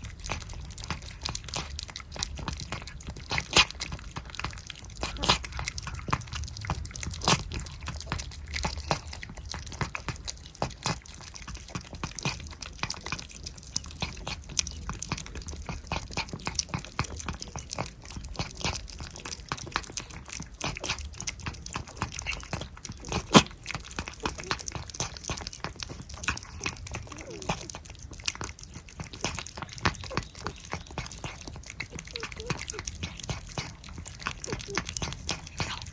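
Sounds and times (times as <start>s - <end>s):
cats licking and eating: 0.0s - 35.9s
wet licking clicks and smacks: 0.0s - 35.9s.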